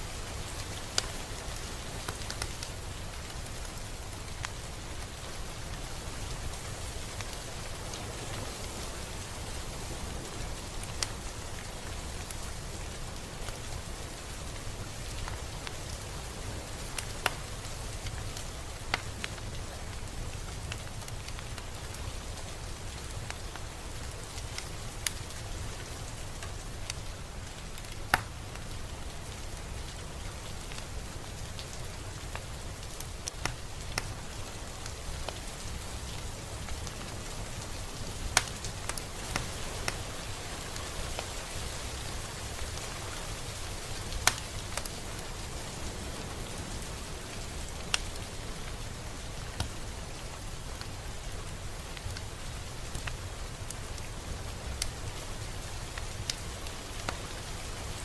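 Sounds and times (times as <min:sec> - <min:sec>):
close raindrops striking: 0:00.0 - 0:58.0
steady rain: 0:00.0 - 0:58.0.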